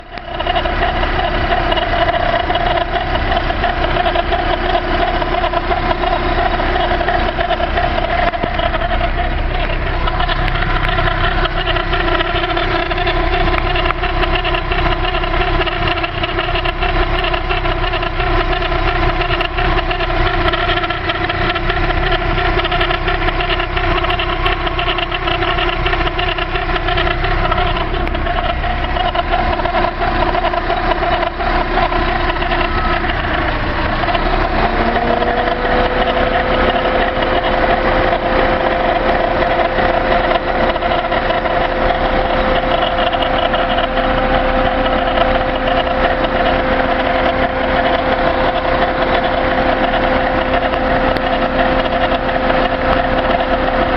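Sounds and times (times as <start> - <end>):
bearing whirring: 0.0 - 53.9
car engine idling: 0.0 - 53.9
steady whine: 0.0 - 53.9.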